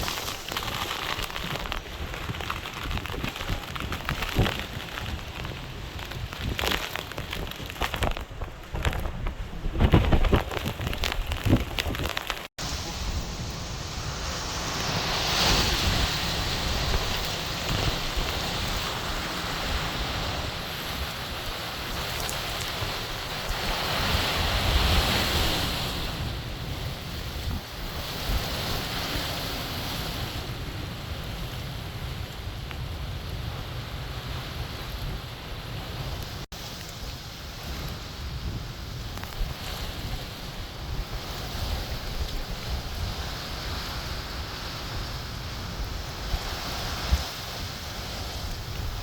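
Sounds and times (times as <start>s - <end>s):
wind and rain rushing: 0.0s - 49.0s
wind buffeting microphone: 0.0s - 49.0s.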